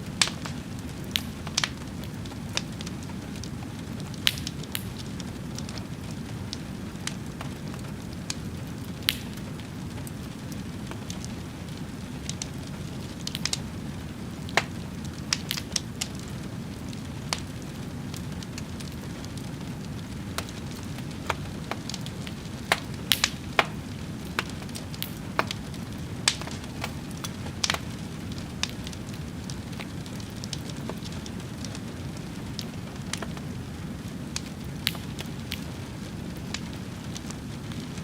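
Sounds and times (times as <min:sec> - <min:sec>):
fire crackling and popping: 0:00.0 - 0:38.0
low rumble of fire: 0:00.0 - 0:38.0.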